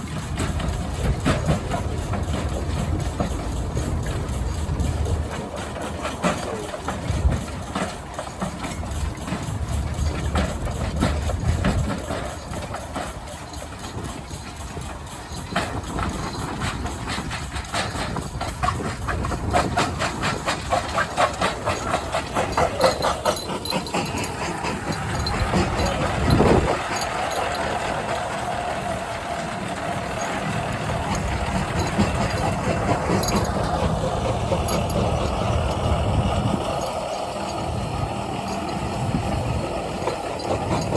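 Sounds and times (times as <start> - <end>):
old engines and machinery running: 0.0 - 40.9.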